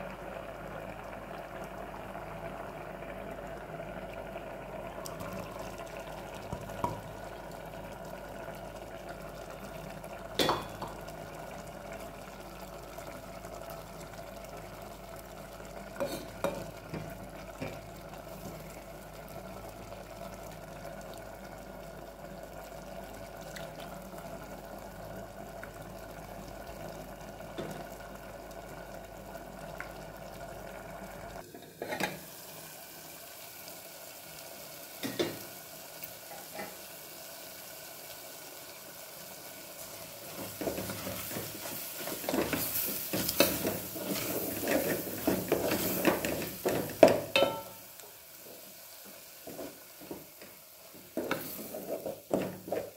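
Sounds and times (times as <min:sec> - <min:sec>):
curry sizzling: 0:00.0 - 0:52.9.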